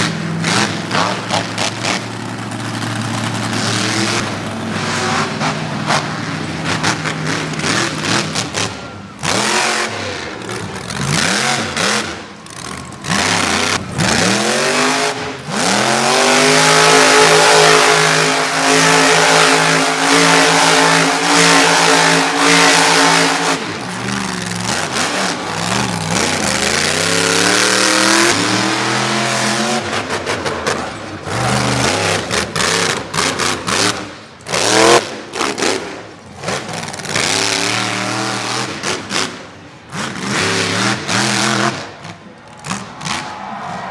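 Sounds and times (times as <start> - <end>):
truck engine revving: 0.0 - 43.8.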